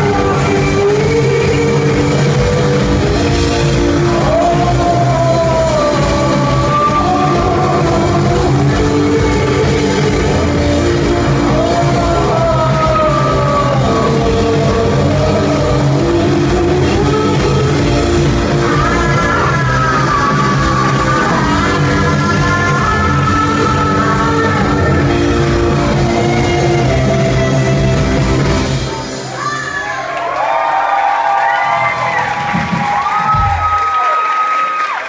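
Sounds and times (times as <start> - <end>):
electric guitar: 0.0 - 29.3
bass guitar: 0.0 - 29.4
person singing: 0.0 - 29.8
drums: 0.0 - 35.0.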